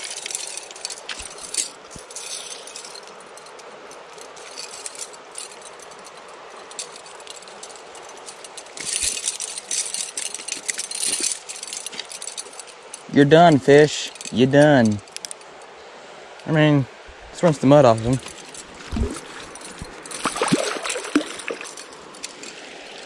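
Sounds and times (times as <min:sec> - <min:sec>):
fish stringer rattling and clinking: 0:00.0 - 0:15.7, 0:17.7 - 0:23.0
creek water rushing: 0:00.0 - 0:23.0.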